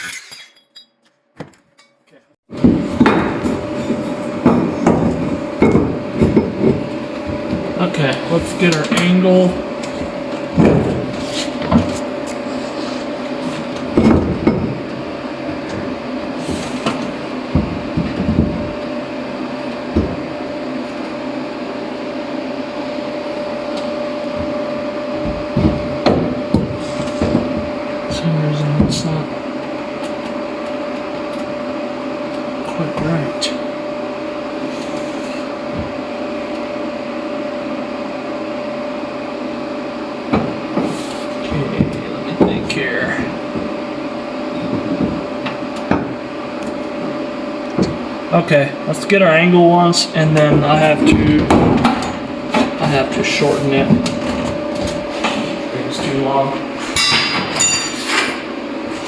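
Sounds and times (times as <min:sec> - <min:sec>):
steady shop hum: 0:00.0 - 0:59.0.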